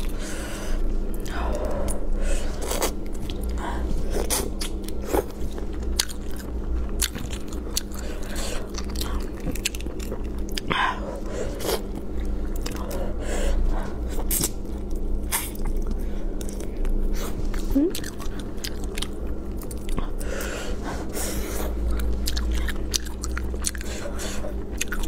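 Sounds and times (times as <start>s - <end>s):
chewing: 1.2s - 13.2s, 13.8s - 25.0s.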